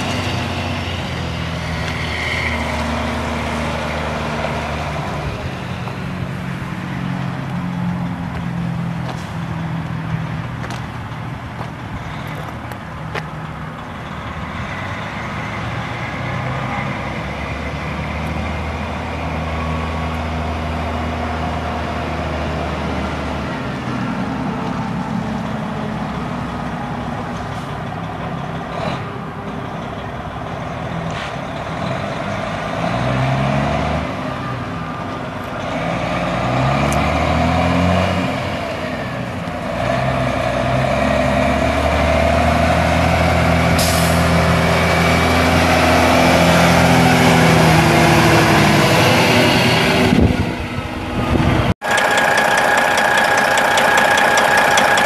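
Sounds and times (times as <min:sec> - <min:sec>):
diesel truck engine revving: 0:00.0 - 0:27.2, 0:29.6 - 0:55.0.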